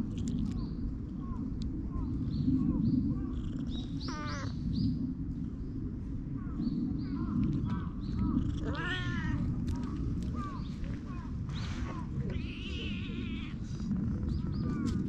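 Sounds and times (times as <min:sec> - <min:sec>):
low rumble: 0:00.0 - 0:15.0
small birds chirping: 0:00.1 - 0:05.0, 0:06.4 - 0:15.0.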